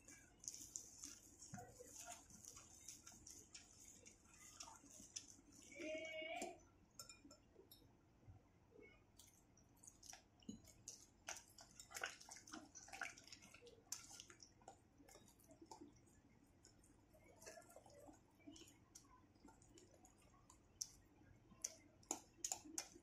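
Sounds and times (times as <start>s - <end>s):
batter stirred in a bowl: 0.0s - 8.0s, 9.0s - 23.0s.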